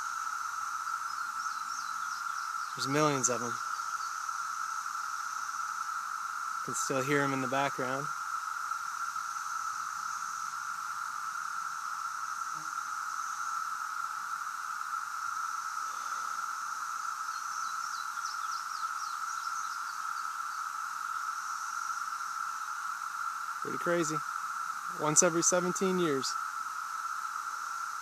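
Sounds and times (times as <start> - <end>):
cicadas droning: 0.0 - 28.0.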